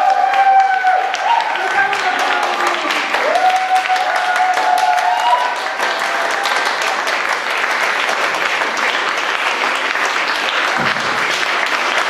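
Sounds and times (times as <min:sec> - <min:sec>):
many hands clapping: 0:00.0 - 0:12.0.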